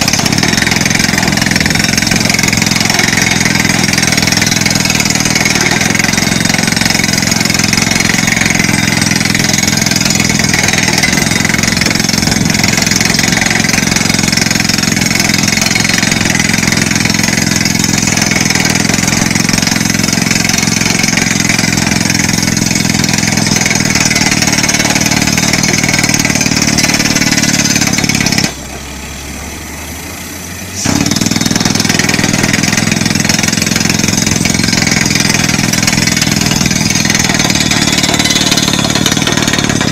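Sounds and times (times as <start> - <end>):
rock drill clattering: 0.0 - 28.6, 30.9 - 39.9.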